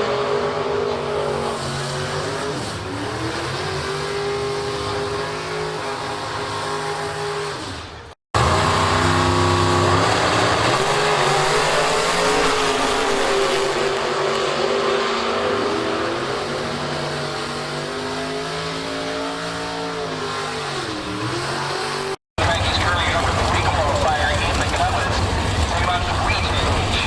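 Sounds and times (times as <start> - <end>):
race car engines revving: 0.0 - 27.0.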